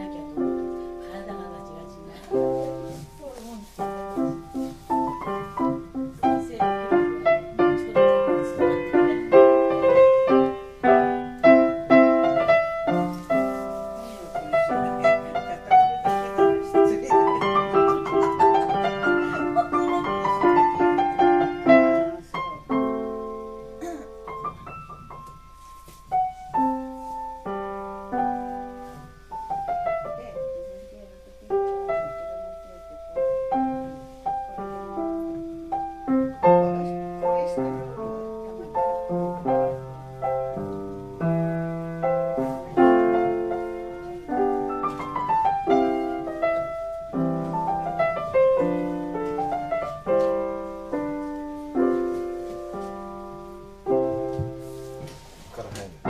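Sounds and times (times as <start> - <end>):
upright piano playing: 0.0 - 56.0.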